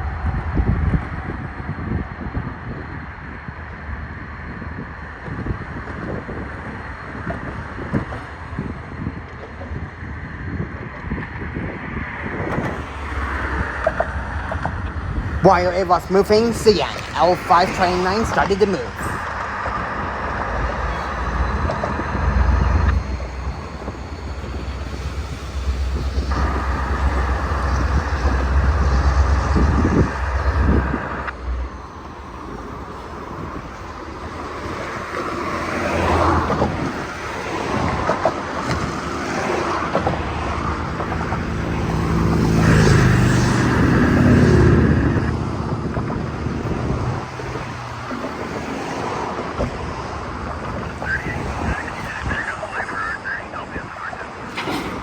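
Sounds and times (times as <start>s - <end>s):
diesel locomotive engines rumbling: 0.0s - 55.0s
wind on microphone: 0.0s - 55.0s.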